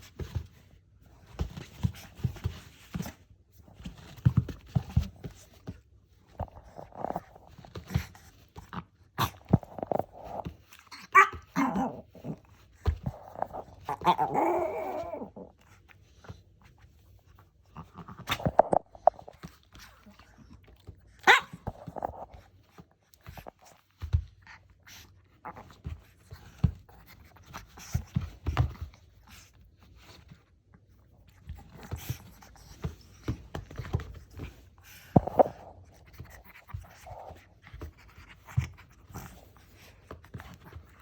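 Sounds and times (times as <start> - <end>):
dog panting and snuffling: 0.0 - 11.2, 15.5 - 41.0
knocks and rustles of movement: 0.0 - 41.0.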